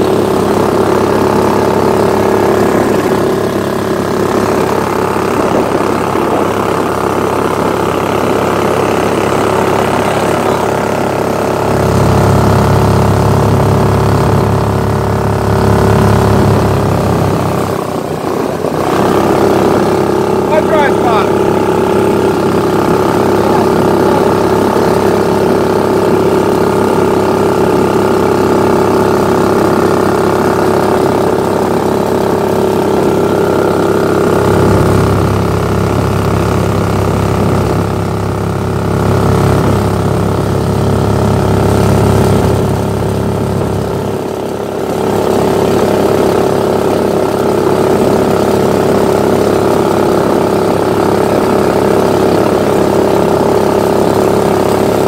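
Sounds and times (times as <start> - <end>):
boat motor engine droning: 0.0 - 55.0.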